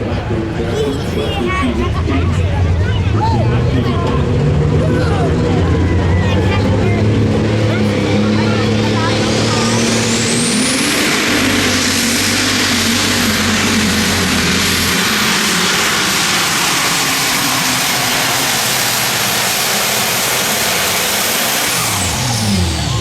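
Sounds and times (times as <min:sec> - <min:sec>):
loud diesel engine: 0:00.0 - 0:23.0
turbo whine: 0:00.0 - 0:23.0.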